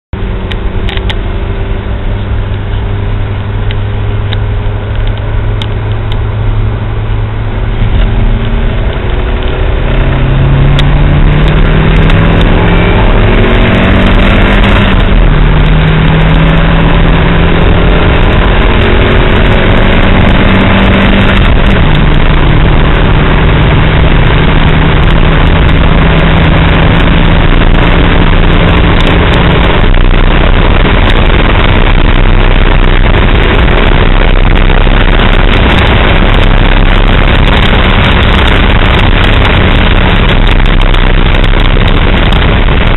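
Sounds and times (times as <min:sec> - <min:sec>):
car engine accelerating: 0:00.1 - 0:42.9
road and wind noise: 0:00.1 - 0:42.9.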